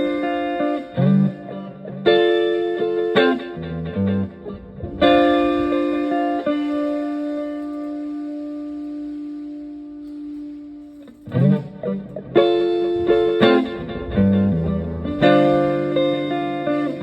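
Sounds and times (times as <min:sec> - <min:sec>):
electric guitar with echo: 0:00.0 - 0:17.0.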